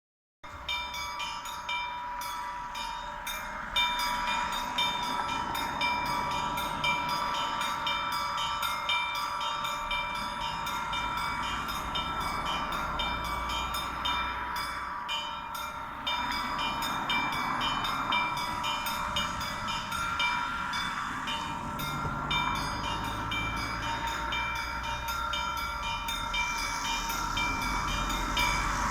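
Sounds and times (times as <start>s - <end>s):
large bells ringing: 0.5s - 28.9s
small bells struck quickly: 0.6s - 28.9s.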